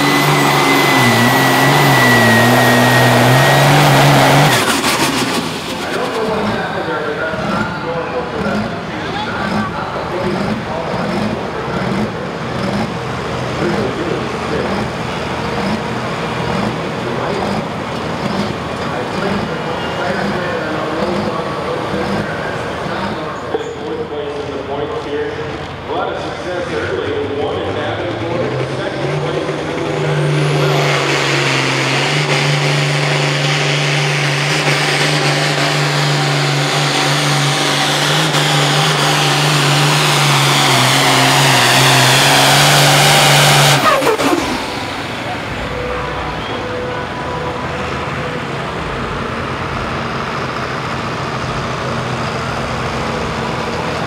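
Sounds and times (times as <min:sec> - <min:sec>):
diesel tractor engine idling: 0:00.0 - 0:54.0.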